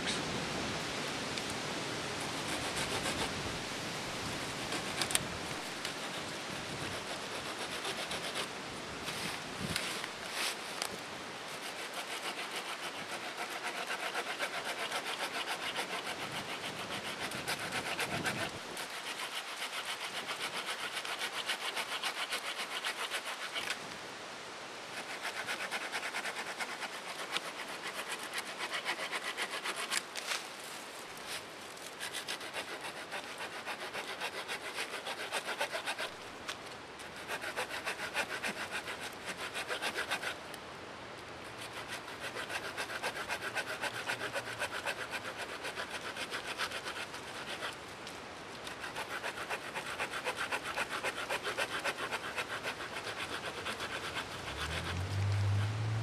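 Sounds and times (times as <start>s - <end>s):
hand saw cutting a branch: 2.3s - 3.3s, 4.6s - 23.8s, 24.9s - 40.4s, 41.5s - 55.8s.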